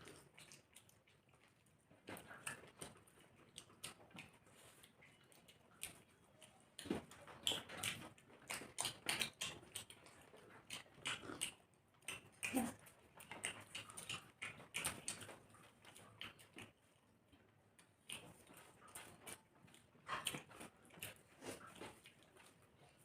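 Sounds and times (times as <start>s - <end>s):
wet chewing and lip-smacking: 0.0s - 23.0s.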